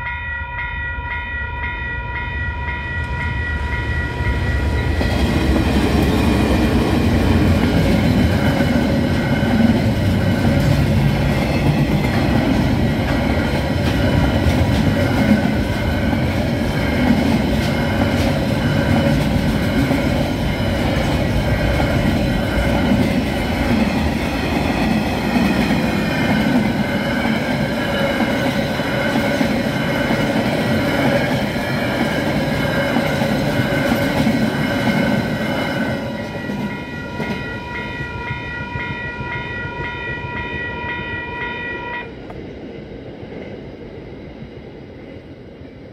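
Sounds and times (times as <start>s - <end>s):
crossing warning bells ringing: 0.0s - 42.3s
freight train rumbling and clattering: 1.6s - 41.4s.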